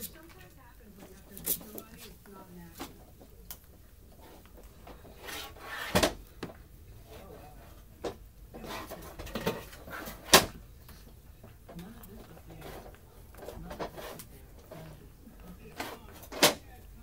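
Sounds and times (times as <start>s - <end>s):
soft rustling: 0.0s - 16.4s.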